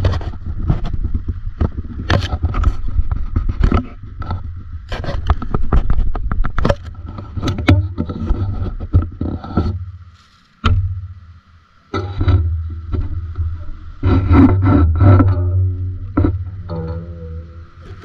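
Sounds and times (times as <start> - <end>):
faint steady whine: 0.0 - 18.0
low underwater rumble: 0.0 - 18.0.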